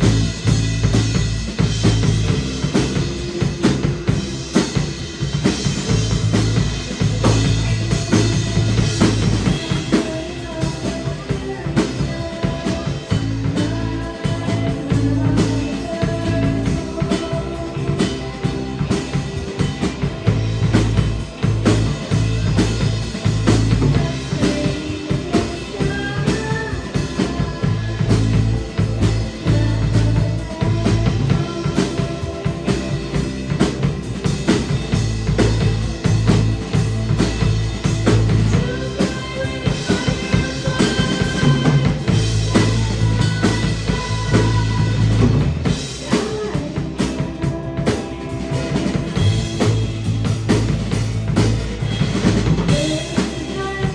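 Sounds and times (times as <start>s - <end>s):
drum kit beat with rimshots: 0.0s - 53.9s
live rock band playing: 0.0s - 53.9s.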